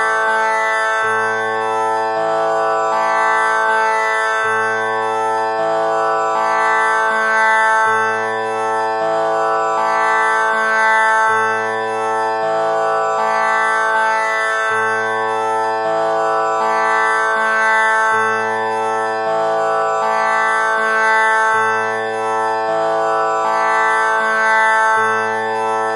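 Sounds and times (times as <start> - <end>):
tanpura drone: 0.0 - 25.9.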